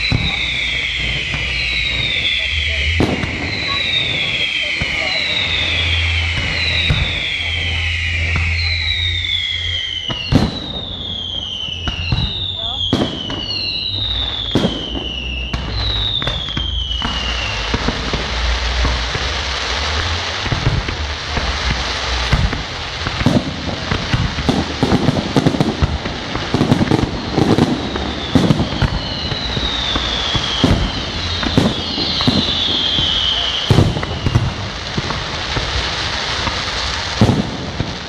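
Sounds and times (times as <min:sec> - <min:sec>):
falling firework whistles: 0:00.0 - 0:38.0
firework crackling pops: 0:00.0 - 0:38.0
fireworks shells bursting: 0:00.0 - 0:38.0.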